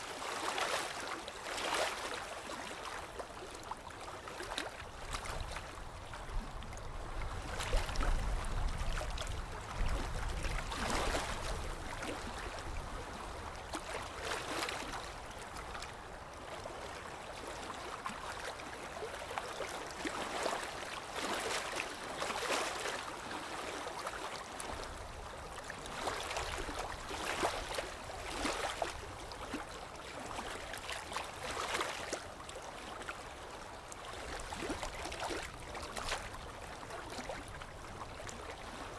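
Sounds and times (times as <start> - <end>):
rush of moving water: 0.0 - 38.9
water lapping and splashing: 0.0 - 38.9.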